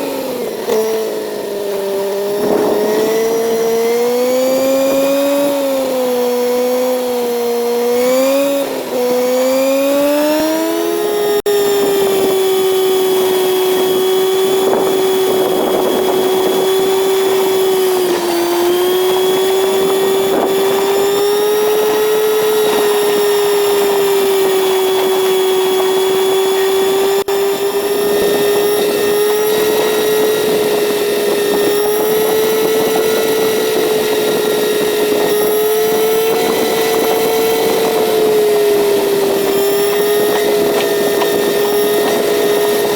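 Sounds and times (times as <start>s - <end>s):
motorcycle engine running: 0.0s - 42.9s
wind noise: 2.0s - 6.0s, 11.5s - 42.9s.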